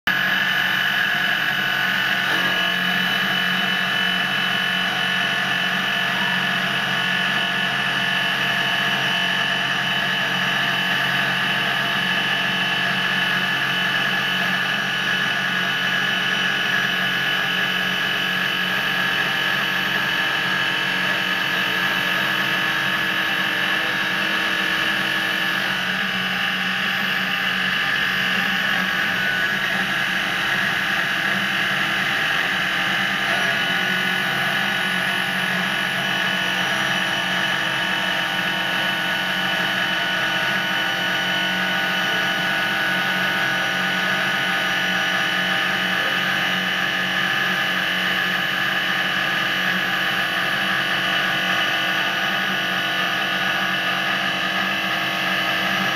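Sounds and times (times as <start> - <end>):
glass polishing machine whine: 0.1 - 55.9.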